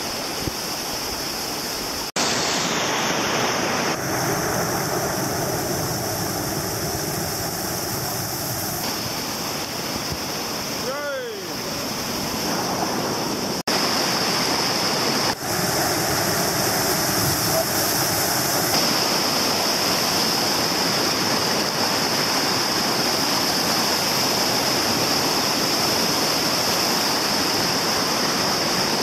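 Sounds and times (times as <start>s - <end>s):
river rapids rushing: 0.0s - 29.0s.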